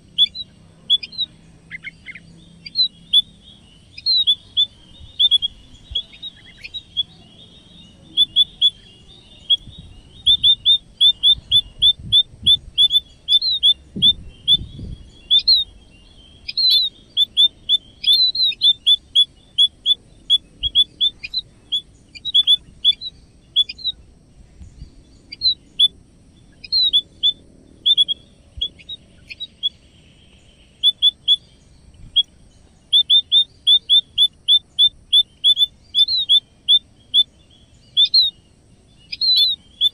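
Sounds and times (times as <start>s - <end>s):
birds chirping high cheeps: 0.0s - 39.9s.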